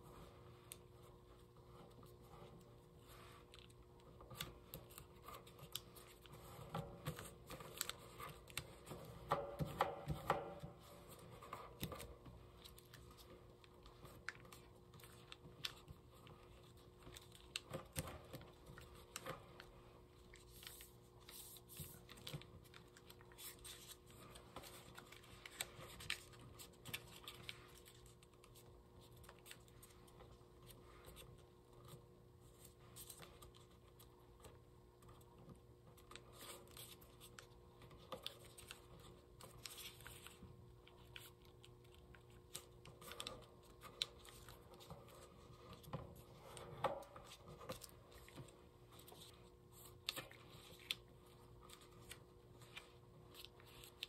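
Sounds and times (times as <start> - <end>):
paper crinkling and rustling: 0.6 - 9.8, 10.8 - 54.0.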